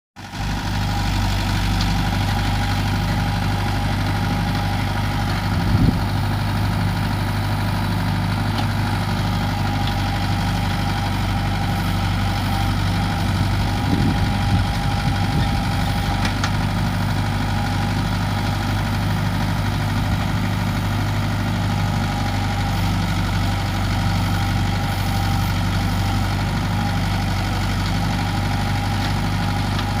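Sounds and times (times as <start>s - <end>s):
tractor diesel engine running: 0.2s - 30.0s.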